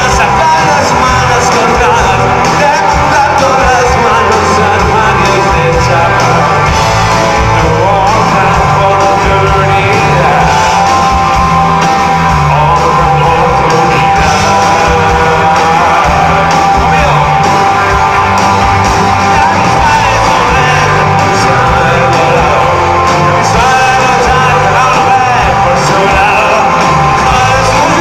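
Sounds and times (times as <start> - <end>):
man singing: 0.0 - 18.2, 19.0 - 28.0
rock band playing live: 0.0 - 28.0.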